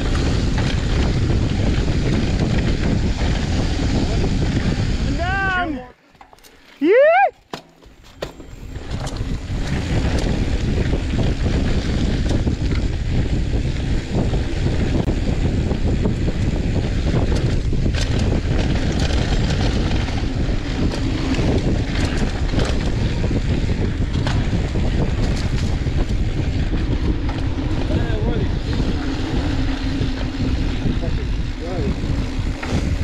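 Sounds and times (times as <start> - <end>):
sharp clicks and rattles: 0.0 - 4.8, 7.5 - 33.0
wind buffeting microphone: 0.0 - 5.9, 8.4 - 33.0
tyres rumbling on dirt: 0.0 - 7.0, 7.6 - 33.0.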